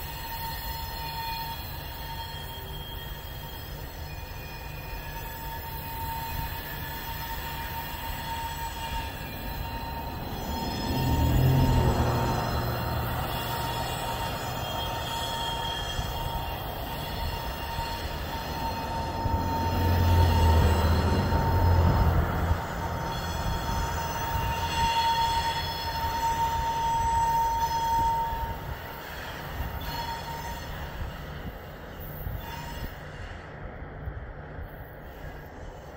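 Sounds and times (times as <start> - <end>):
steel wheels squealing on rail: 0.0 - 35.9
train rumbling: 0.0 - 35.9.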